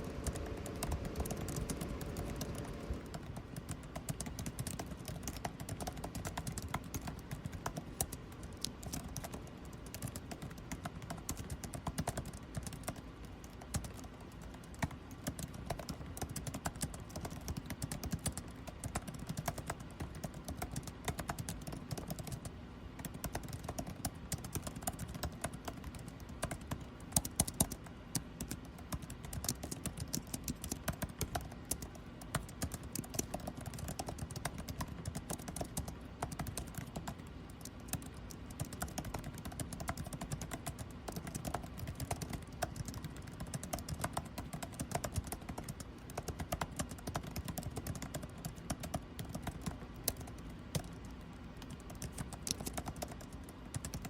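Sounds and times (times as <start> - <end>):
air conditioning hum: 0.0 - 54.0
typing on computer keyboard: 0.0 - 54.0.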